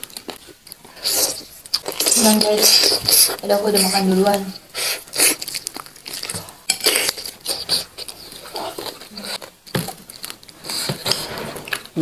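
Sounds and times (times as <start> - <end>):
person chewing meat off bone: 0.0 - 4.0, 4.6 - 11.9.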